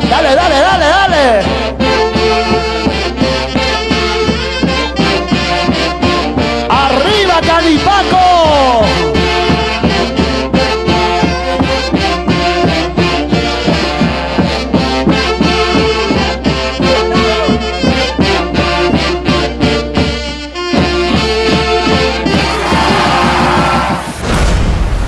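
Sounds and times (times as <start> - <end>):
bass and drum beat: 0.0 - 20.1, 20.7 - 24.5
wind and brass melody: 0.0 - 24.2.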